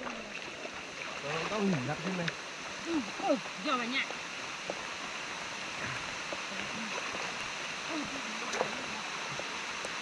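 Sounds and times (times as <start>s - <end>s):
stream rushing: 0.0s - 10.0s.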